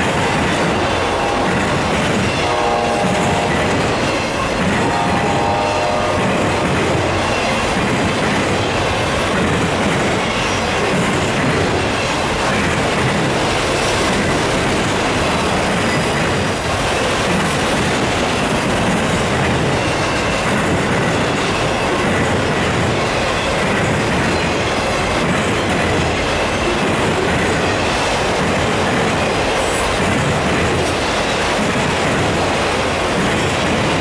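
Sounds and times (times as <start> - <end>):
steel wheels on rail: 0.0 - 34.0.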